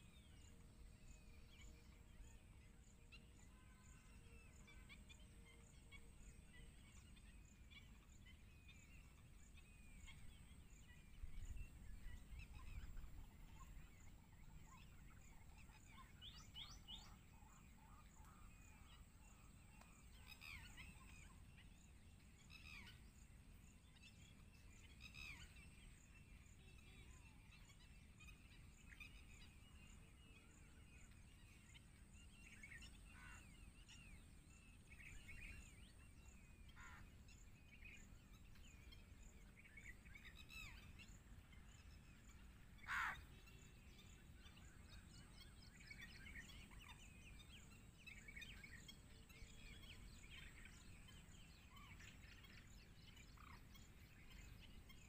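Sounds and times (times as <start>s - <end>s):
faint bird chirps: 0.0s - 55.0s.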